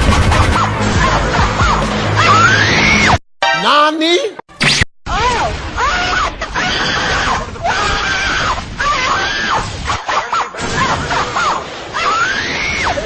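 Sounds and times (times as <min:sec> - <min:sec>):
high-pitched screams: 0:00.6 - 0:03.2, 0:05.1 - 0:13.0.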